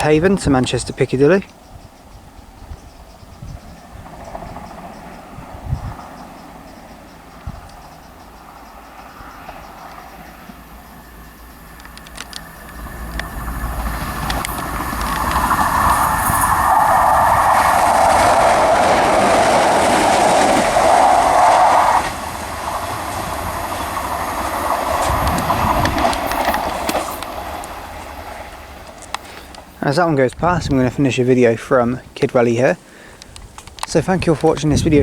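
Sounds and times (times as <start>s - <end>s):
diesel train passing: 0.0s - 35.0s
wheels clattering on rails: 0.0s - 35.0s.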